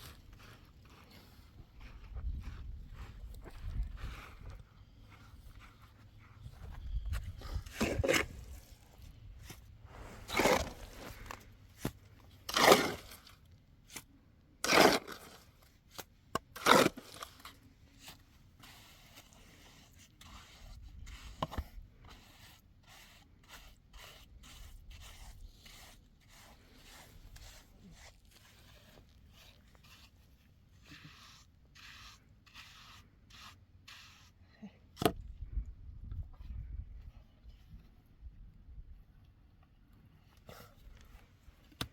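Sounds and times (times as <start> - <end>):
hand tool scraping: 0.0 - 35.2.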